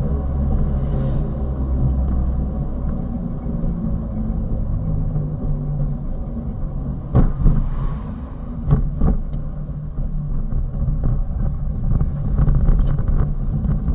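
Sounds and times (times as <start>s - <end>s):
heavy vehicle engine running: 0.0s - 13.9s
road rumble: 0.0s - 13.9s.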